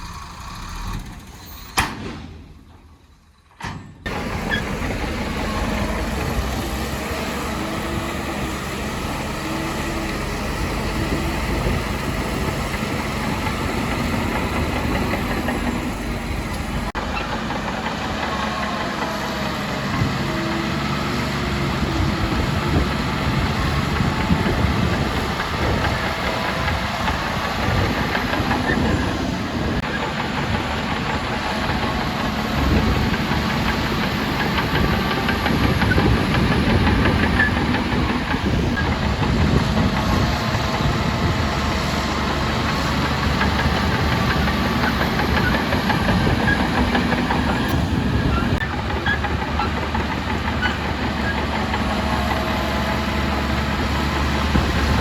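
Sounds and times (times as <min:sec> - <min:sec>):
diesel machinery engines running: 0:00.0 - 0:55.0.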